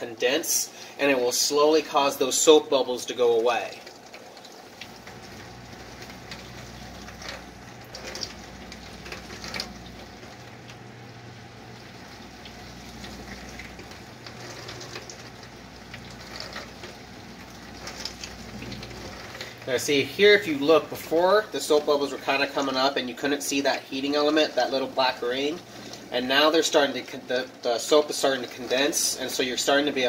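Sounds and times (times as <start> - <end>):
dishwasher pump humming: 0.0 - 30.0
water splashing in dishwasher: 0.0 - 30.0.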